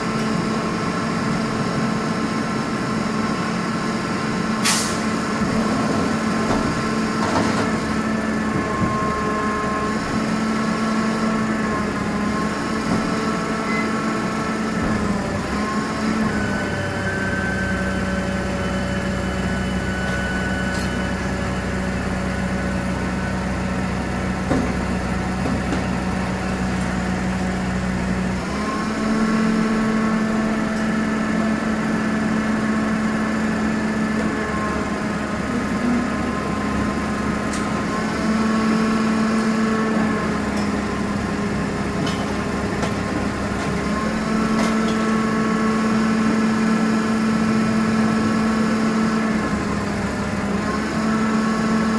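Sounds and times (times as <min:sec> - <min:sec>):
garbage truck diesel engine: 0:00.0 - 0:51.9.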